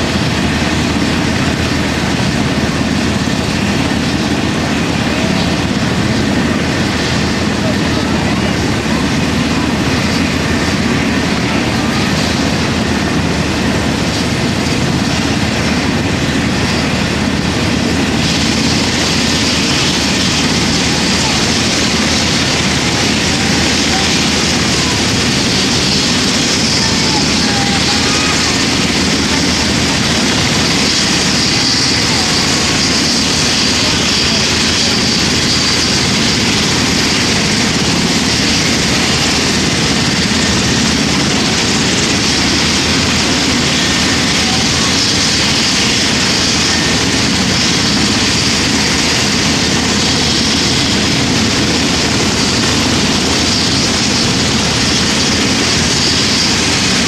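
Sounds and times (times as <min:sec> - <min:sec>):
helicopter engines and rotors rumbling: 0:00.0 - 0:57.0
helicopter turbine whine: 0:00.0 - 0:57.0.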